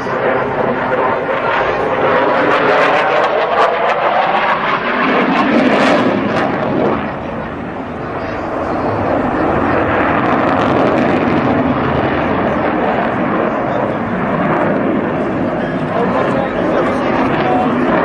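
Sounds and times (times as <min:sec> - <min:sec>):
jet noise: 0:00.0 - 0:18.0.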